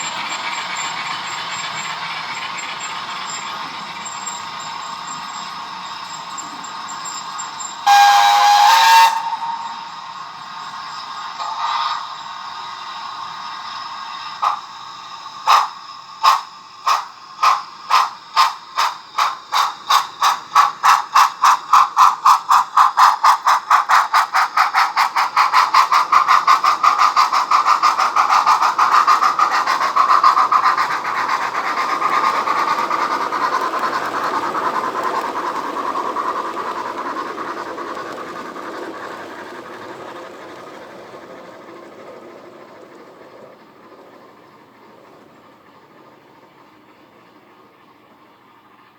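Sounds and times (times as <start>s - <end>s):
steam locomotive chuffing: 0.0s - 48.9s.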